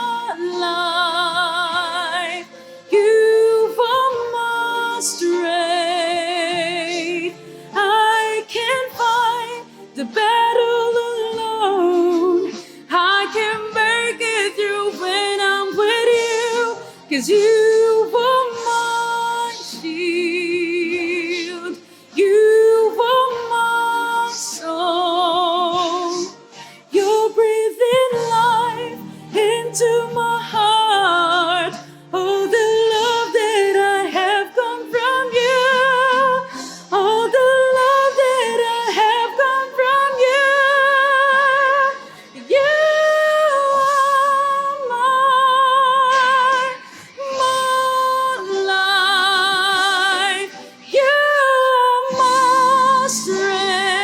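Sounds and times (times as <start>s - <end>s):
woman singing a worship song: 0.0s - 54.0s.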